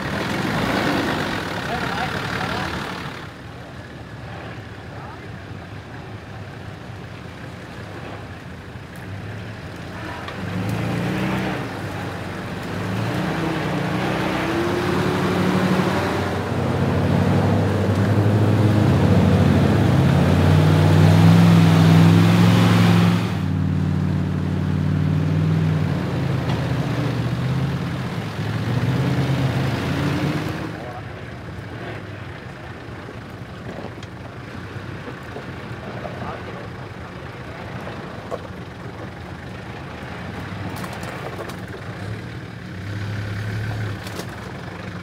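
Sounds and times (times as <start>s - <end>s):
engines revving and labouring: 0.0s - 45.0s.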